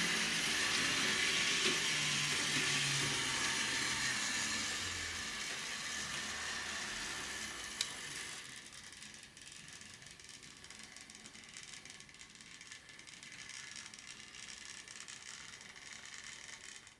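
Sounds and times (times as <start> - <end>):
model train motor whirring: 0.0 - 16.9.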